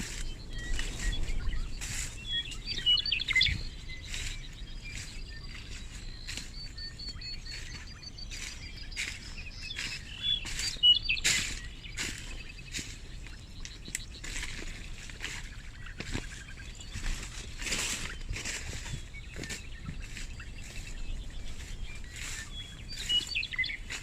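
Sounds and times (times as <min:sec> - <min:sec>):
sharp rustling crunches: 0:00.0 - 0:24.0
small birds chirping: 0:00.0 - 0:24.0.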